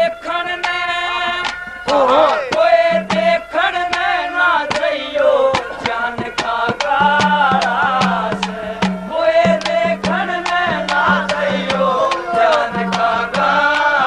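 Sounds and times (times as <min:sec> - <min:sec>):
man singing a folk song: 0:00.0 - 0:14.0
hand drum strokes: 0:00.6 - 0:14.0.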